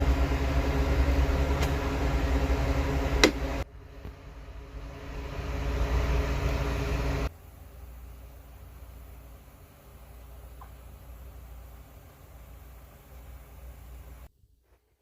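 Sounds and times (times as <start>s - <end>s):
machine humming: 0.0s - 14.3s.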